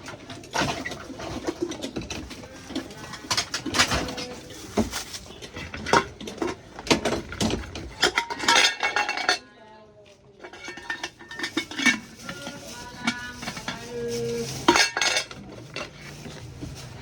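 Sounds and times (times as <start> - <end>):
metal cookware clanking: 0.0 - 9.5, 10.4 - 17.0.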